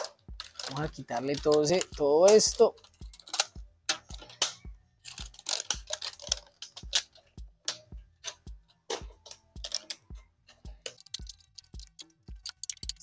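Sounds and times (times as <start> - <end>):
background music with low beat: 0.0 - 13.0.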